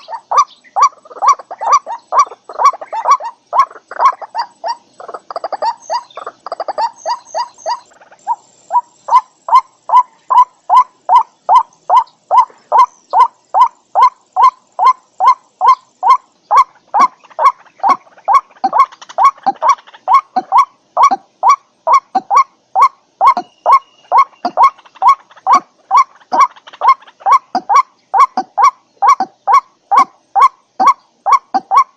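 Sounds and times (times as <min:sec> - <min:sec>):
waterhen harsh calls: 0:00.0 - 0:31.9.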